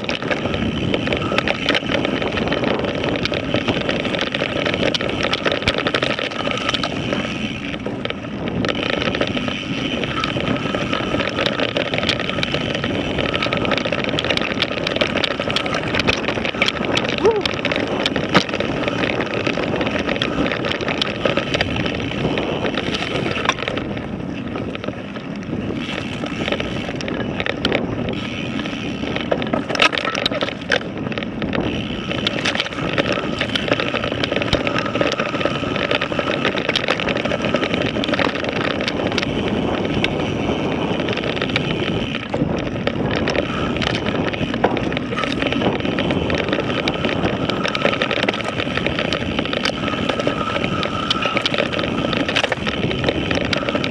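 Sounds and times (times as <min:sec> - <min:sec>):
bicycle tyre and wind noise: 0:00.0 - 0:53.9
bike clattering over rocks: 0:00.0 - 0:53.9.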